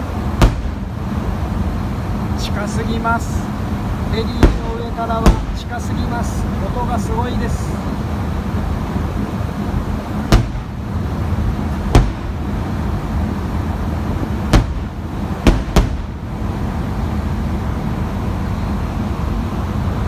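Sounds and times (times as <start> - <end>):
firework bangs: 0.0 - 17.7.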